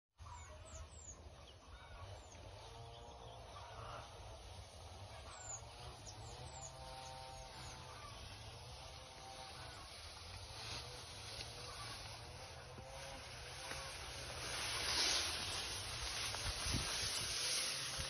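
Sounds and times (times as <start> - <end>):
small birds chirping: 0.2 - 18.0
distant fowl calling: 0.3 - 18.0.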